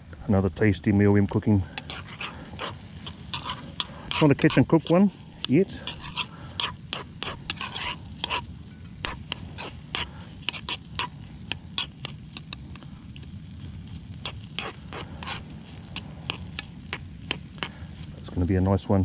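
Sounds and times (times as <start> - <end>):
spoon scraping frying pan: 0.6 - 18.3.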